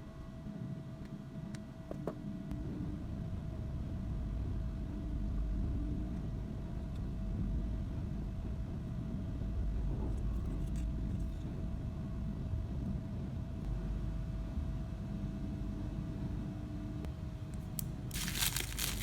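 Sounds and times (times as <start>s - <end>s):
faint constant hum: 0.0s - 19.0s.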